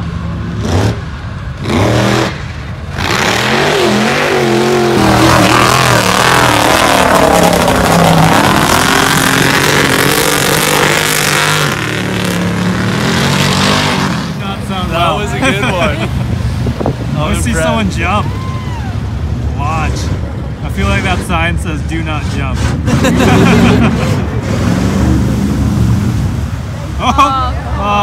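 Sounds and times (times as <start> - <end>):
truck engine revving: 0.0 - 18.3, 18.9 - 28.0.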